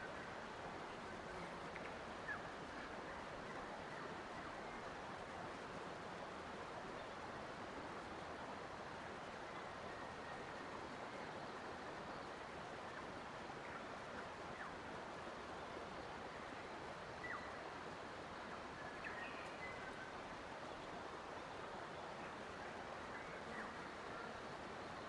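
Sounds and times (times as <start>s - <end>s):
flowing water: 0.0s - 25.0s.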